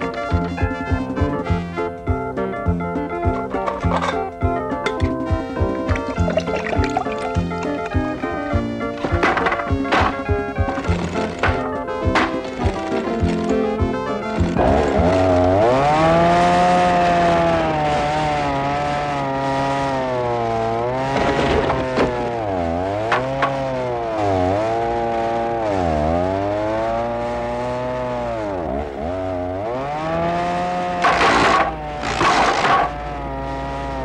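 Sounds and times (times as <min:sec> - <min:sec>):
small chainsaw engine running: 0:05.6 - 0:34.0.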